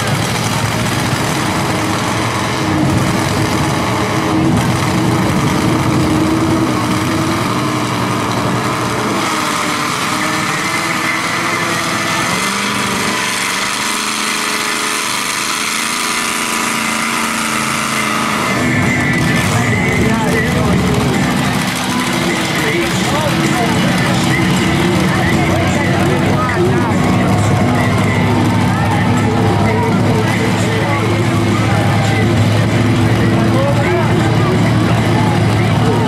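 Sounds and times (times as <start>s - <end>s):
truck engine running under load: 0.0s - 36.0s.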